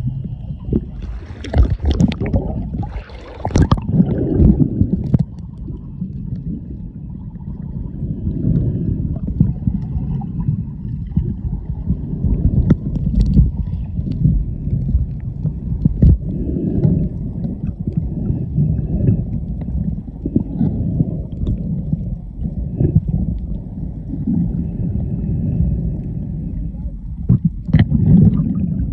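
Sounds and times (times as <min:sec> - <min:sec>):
underwater clicks and crackles: 0:00.0 - 0:24.7, 0:25.8 - 0:28.9
underwater rumble of moving water: 0:00.0 - 0:28.9.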